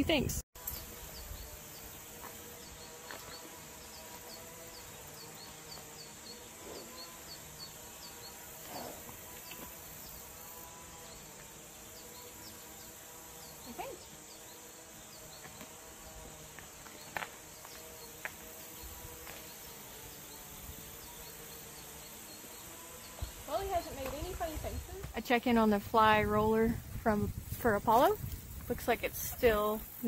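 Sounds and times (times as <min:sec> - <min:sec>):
insects droning: 0:00.0 - 0:30.0
insect chirping: 0:00.1 - 0:25.1.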